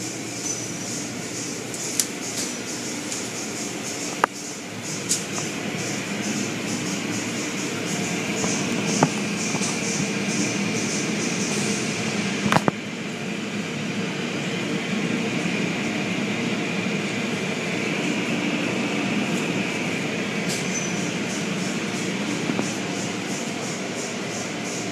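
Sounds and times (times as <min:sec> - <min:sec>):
car wash machinery running: 0:00.0 - 0:24.9.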